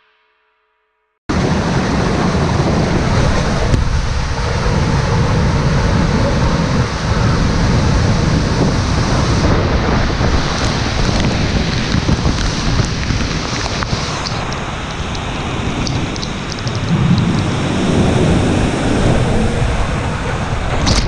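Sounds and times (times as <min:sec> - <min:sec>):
water rushing down a slide: 0:01.3 - 0:21.0.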